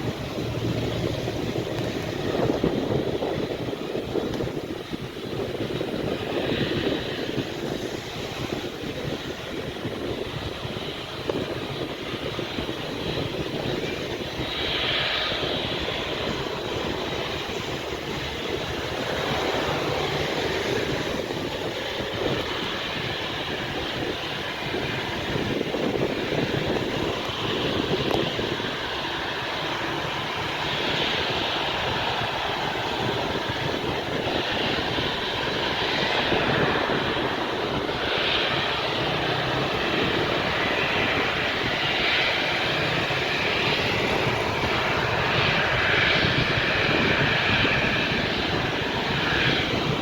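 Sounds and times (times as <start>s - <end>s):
jet engines roaring: 0.0s - 50.0s.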